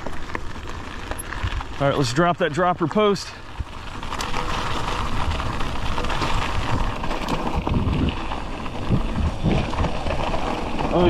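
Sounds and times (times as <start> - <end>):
wind rumbling on microphone: 0.0 - 2.1, 3.4 - 11.0
bike tyres rattling on gravel trail: 0.0 - 11.0.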